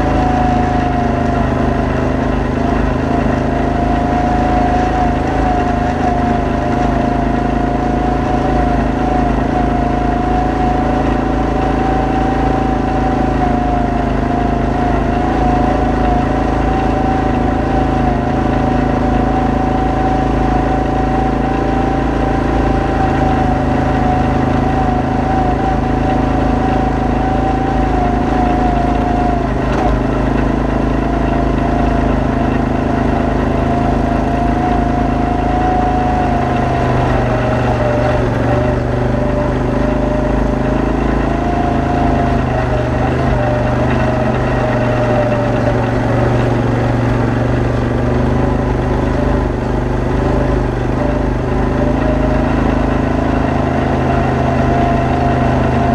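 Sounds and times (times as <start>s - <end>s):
atv engine running steadily: 0.0s - 55.9s.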